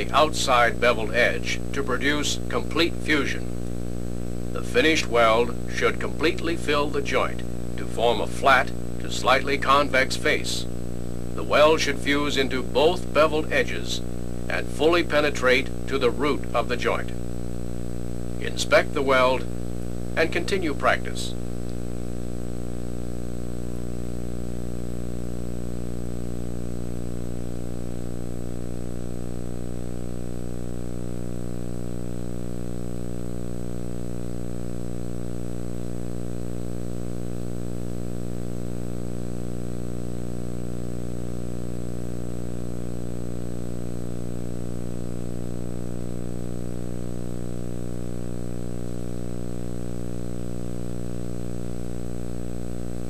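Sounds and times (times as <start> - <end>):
electrical buzzing hum: 0.0 - 53.0
faint high whine: 0.0 - 53.0.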